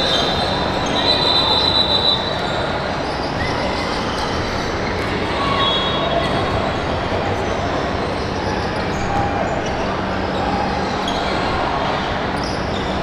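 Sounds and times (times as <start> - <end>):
gym crowd din: 0.0 - 13.0.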